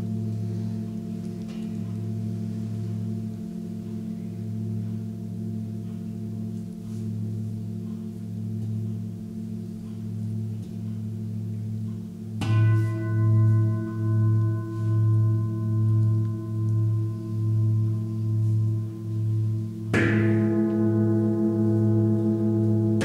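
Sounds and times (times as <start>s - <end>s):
singing bowl struck: 0.0s - 23.0s
singing bowls humming: 0.0s - 23.0s.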